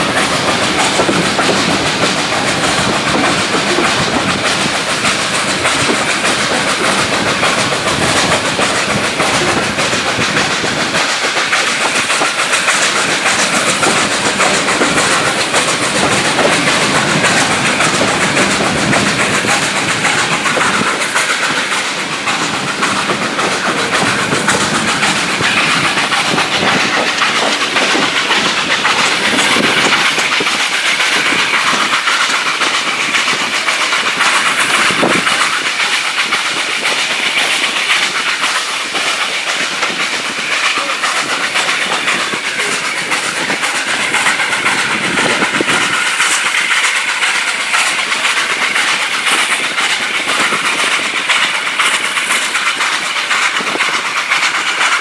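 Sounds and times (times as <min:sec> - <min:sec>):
train running noise and wind: 0:00.0 - 0:55.0
train wheels clattering over rail joints: 0:00.0 - 0:55.0.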